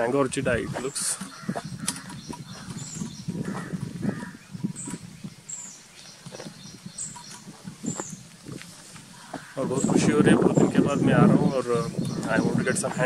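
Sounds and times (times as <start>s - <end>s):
bird chirping: 0.8s - 8.4s, 9.1s - 13.0s.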